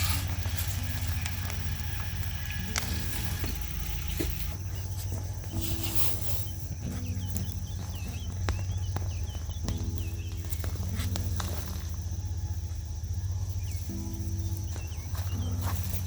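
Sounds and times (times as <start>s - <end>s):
small birds chirping: 0.0s - 16.0s
soft sustained low tones: 0.0s - 16.0s
steady low hum: 0.0s - 16.0s.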